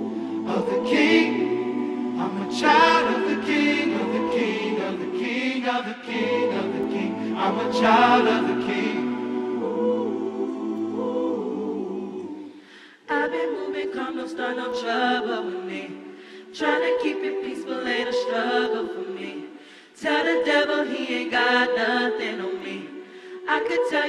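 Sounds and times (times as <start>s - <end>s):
gospel choir singing a cappella: 0.0s - 24.0s.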